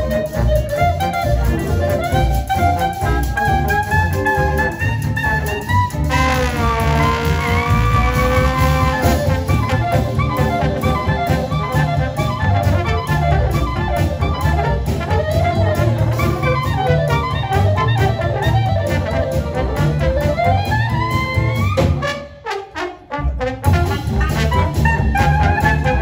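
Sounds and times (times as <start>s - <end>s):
clarinet melody: 0.0s - 26.0s
jazz band playing live: 0.0s - 26.0s.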